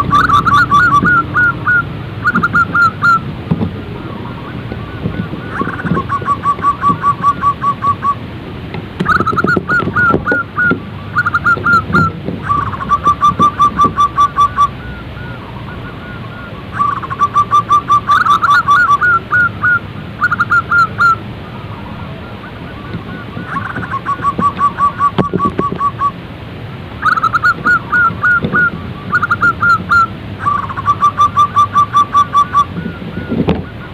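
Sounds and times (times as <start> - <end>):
doves cooing: 0.0 - 8.4, 9.0 - 26.2, 27.0 - 33.9.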